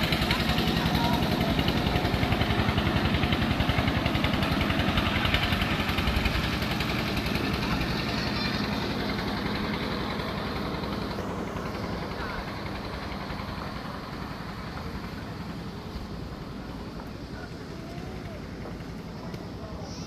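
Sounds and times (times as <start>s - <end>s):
engine running with rapid pulse: 0.0s - 20.0s.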